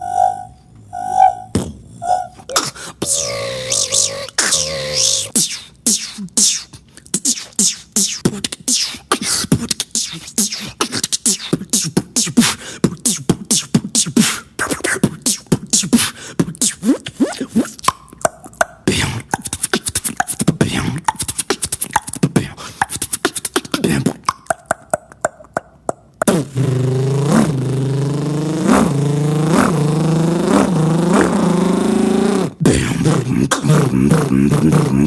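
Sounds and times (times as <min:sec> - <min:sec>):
person beatboxing: 0:01.3 - 0:35.0.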